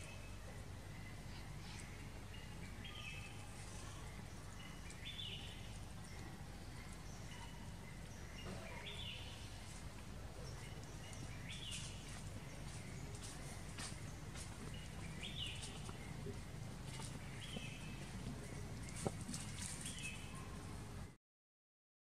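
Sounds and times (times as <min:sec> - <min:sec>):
low background noise: 0:00.0 - 0:21.2.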